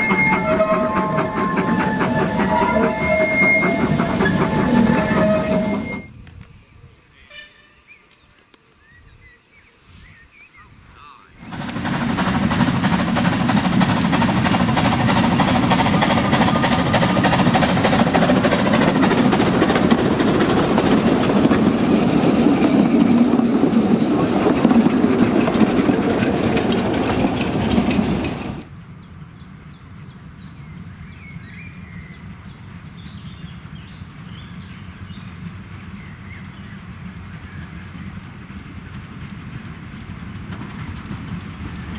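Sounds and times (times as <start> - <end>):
steam train running past: 0.0 - 6.2, 10.9 - 41.9.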